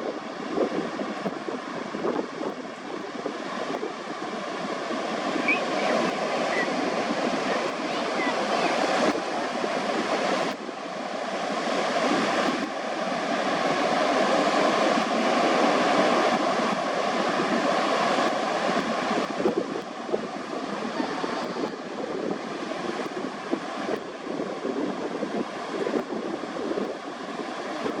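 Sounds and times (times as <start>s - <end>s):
ocean surf washing onto beach: 0.0s - 28.0s.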